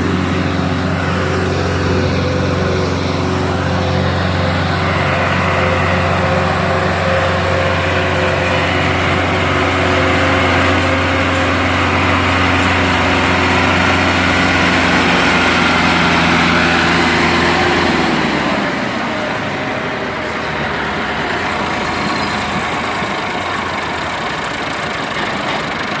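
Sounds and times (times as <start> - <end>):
tractor diesel engines under load: 0.0 - 26.0.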